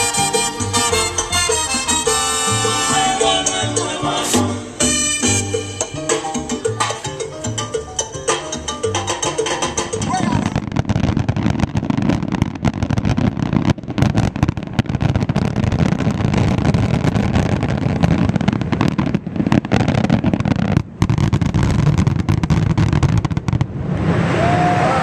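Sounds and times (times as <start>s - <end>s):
fireworks crackling: 0.0s - 24.8s
fireworks booming rumble: 0.0s - 24.9s.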